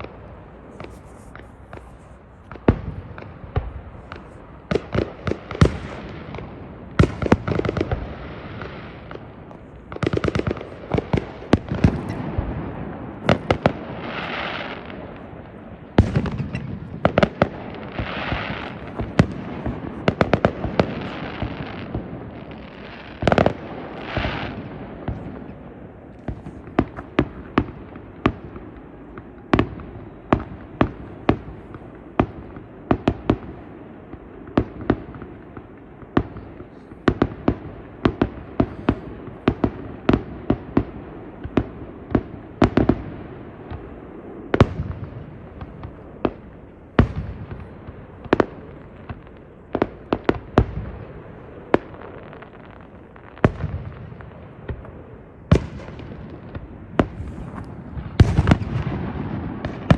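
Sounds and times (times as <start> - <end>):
fireworks banging: 0.0 - 59.9.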